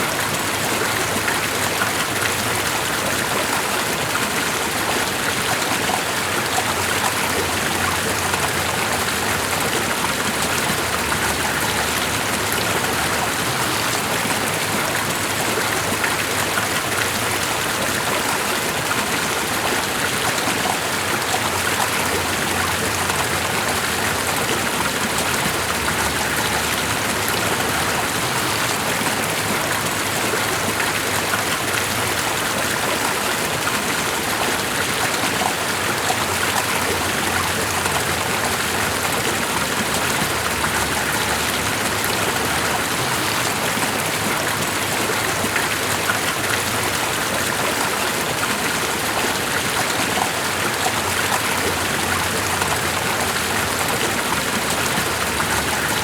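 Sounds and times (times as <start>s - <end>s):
running and falling water: 0.0s - 56.0s.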